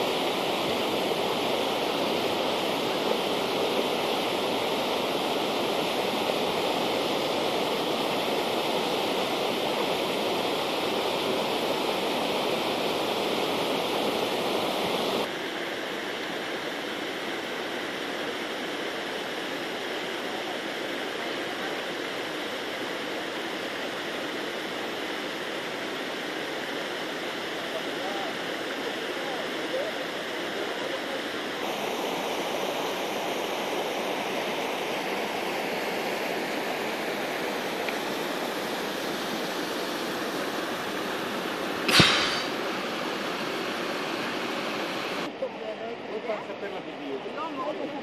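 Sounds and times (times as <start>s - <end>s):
river water churning and foaming: 0.0s - 48.0s.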